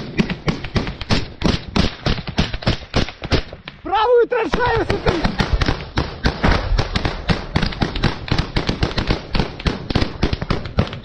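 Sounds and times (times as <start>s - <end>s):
rifle shots cracking: 0.0s - 3.6s, 4.5s - 11.0s.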